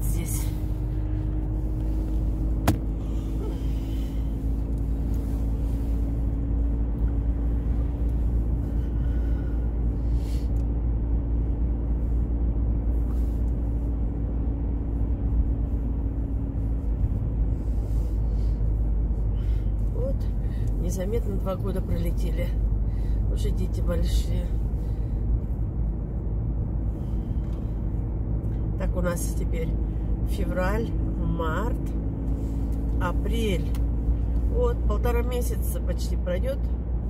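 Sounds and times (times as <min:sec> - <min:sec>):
engine and tyre rumble: 0:00.0 - 0:37.0.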